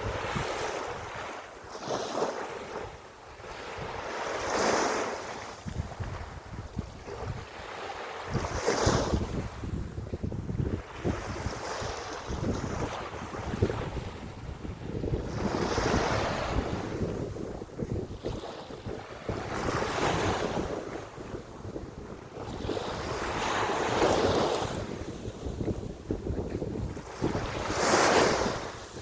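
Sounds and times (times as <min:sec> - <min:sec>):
wind buffeting microphone: 0:00.0 - 0:01.4, 0:05.5 - 0:29.0
small waves washing on sand: 0:00.0 - 0:29.0.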